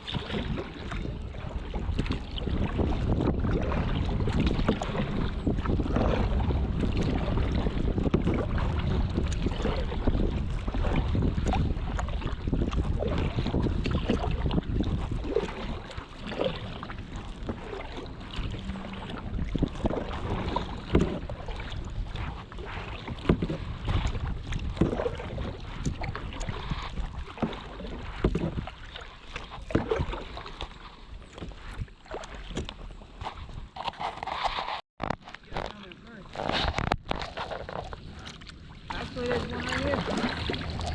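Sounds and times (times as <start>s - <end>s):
kayak paddles splashing in water: 0.0s - 40.9s
wind rumbling on microphone: 0.0s - 40.9s.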